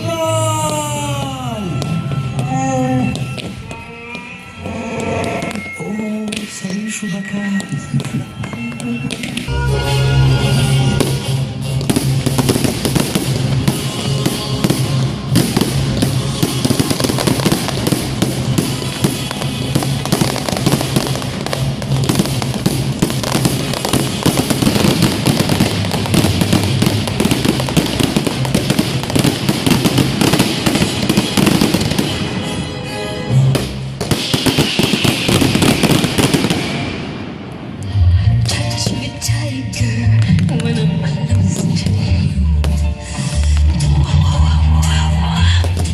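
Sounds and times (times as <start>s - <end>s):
fireworks crackles and bangs: 0.0s - 39.6s, 40.2s - 45.9s
loud music: 0.0s - 45.9s.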